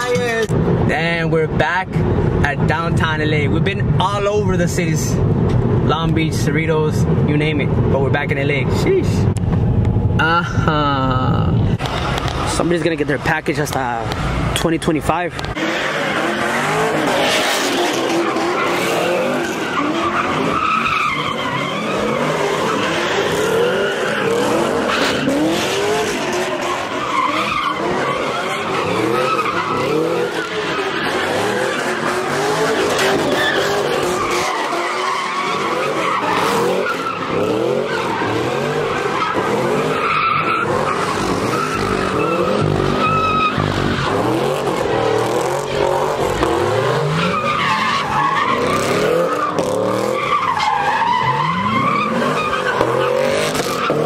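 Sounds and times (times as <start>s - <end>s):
car engines revving: 0.0s - 54.0s
tires squealing: 10.2s - 54.0s.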